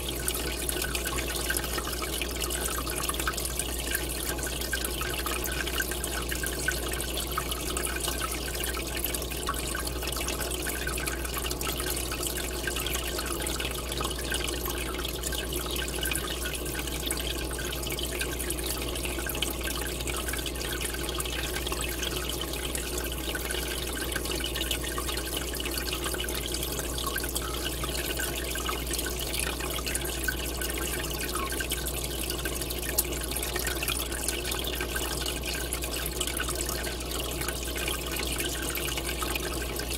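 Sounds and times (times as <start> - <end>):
aquarium air bubbling: 0.0 - 39.9
low pump hum: 0.0 - 39.9.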